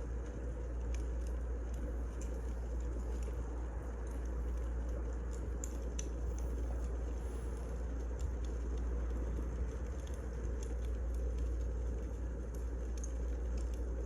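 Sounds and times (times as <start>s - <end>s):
firewood crackling: 0.0s - 14.0s.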